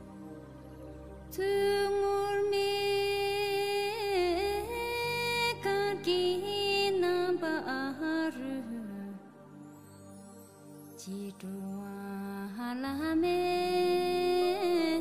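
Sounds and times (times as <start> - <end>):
soft sustained backing music: 0.0 - 15.0.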